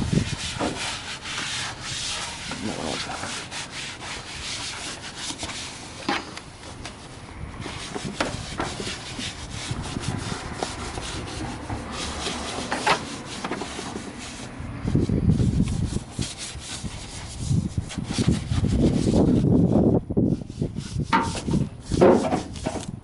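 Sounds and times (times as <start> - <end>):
brush scrubbing: 0.0 - 6.0, 6.9 - 22.8.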